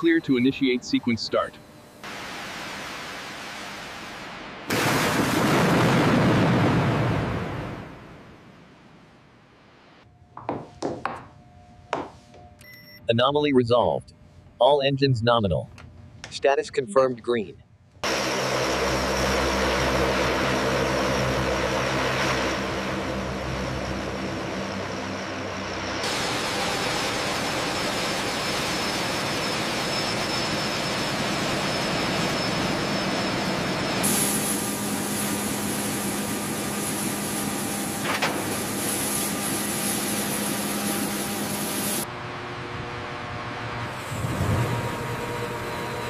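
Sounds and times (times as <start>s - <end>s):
aircraft turbine engines running: 0.0s - 5.6s, 13.6s - 46.0s.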